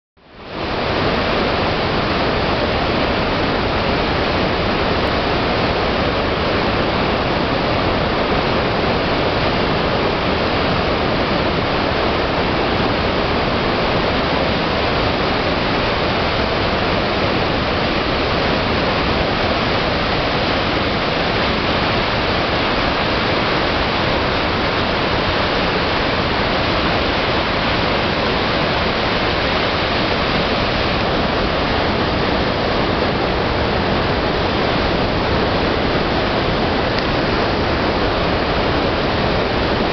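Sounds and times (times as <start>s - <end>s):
water rushing over dam spillway: 0.2s - 39.9s.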